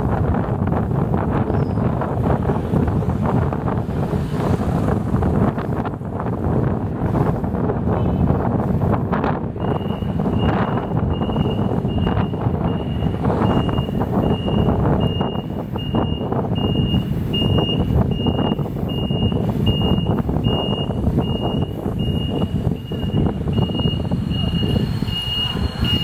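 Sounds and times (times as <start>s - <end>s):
rumbling road noise: 0.0s - 26.0s.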